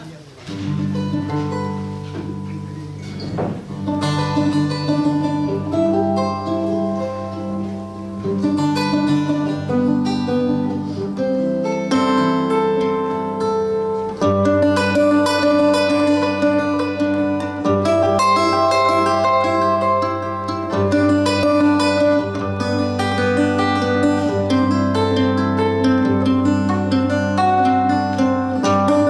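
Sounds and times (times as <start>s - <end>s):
plucked string instrument melody: 0.0s - 29.0s.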